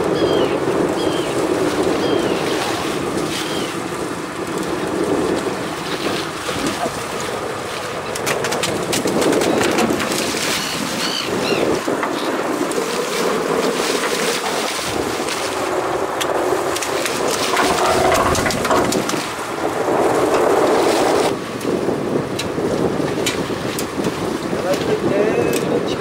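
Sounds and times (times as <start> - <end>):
sea noise: 0.0 - 26.0
wind buffeting microphone: 0.0 - 26.0.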